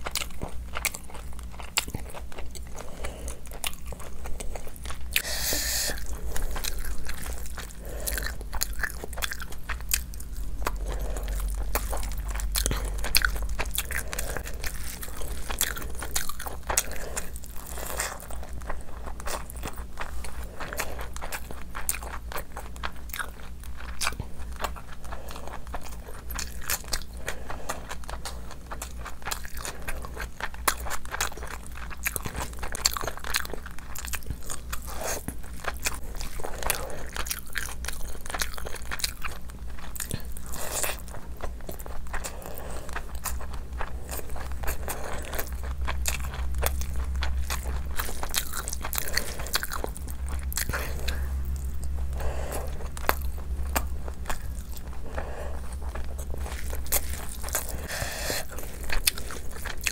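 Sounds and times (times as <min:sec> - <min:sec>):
person chewing and biting: 0:00.0 - 0:59.9
steady low hum: 0:00.0 - 0:59.9.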